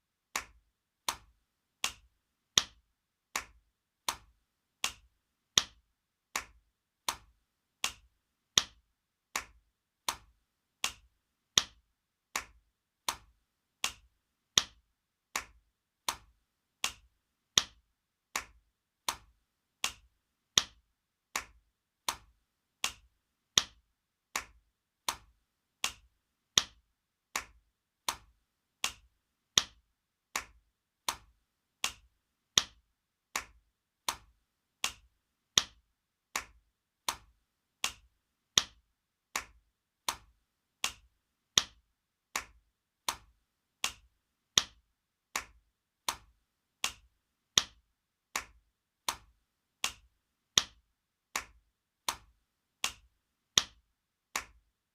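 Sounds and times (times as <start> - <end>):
hand slapping skin: 0.3 - 53.8, 54.4 - 54.6.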